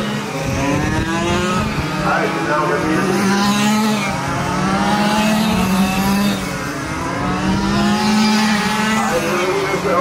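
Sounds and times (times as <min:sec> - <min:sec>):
rc car motors racing: 0:00.0 - 0:10.0.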